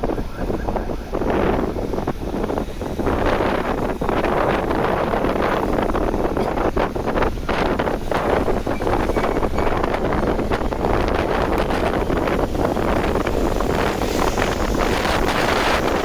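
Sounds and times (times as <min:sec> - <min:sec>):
motorcycle and road noise: 0:00.0 - 0:16.0
wind buffeting microphone: 0:00.0 - 0:16.0.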